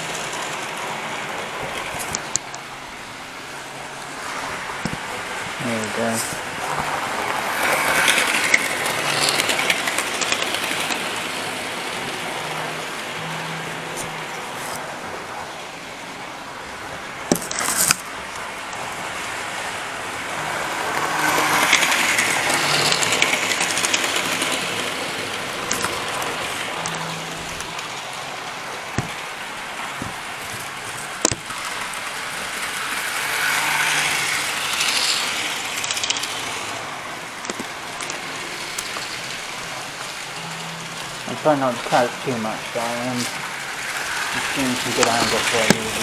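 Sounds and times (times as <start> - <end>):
model train rumbling on track: 0.0 - 17.4, 18.2 - 46.0.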